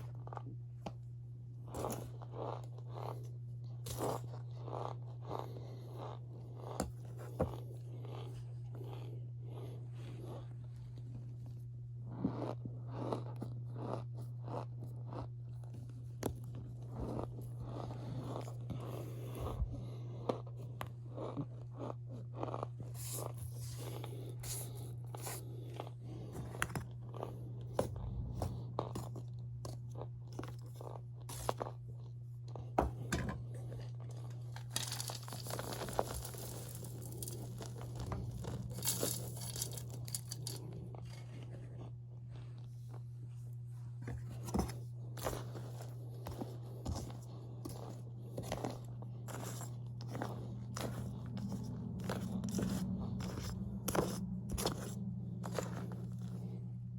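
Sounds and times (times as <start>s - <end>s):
low hum: 0.0s - 56.9s
cornstarch crunching and squeaking: 1.7s - 11.0s, 12.1s - 19.4s, 20.2s - 32.2s, 33.8s - 42.6s, 45.2s - 56.6s.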